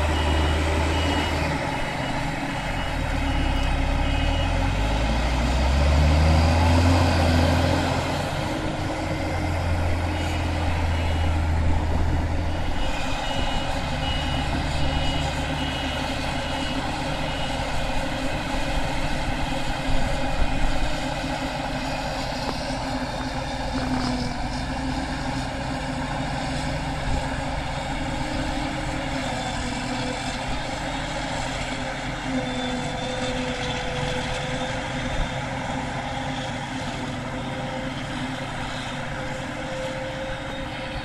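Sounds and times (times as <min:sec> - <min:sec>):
forage harvester engine and chopper: 0:00.0 - 0:41.0
tractor engine running: 0:00.0 - 0:41.0.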